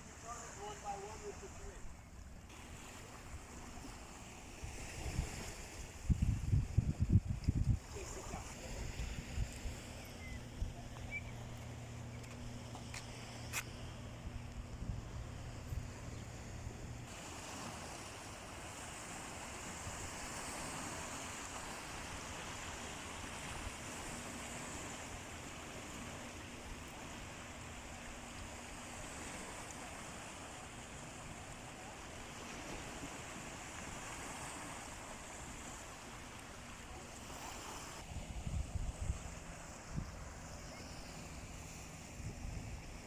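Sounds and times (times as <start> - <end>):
sea waves breaking ashore: 0.0 - 43.0.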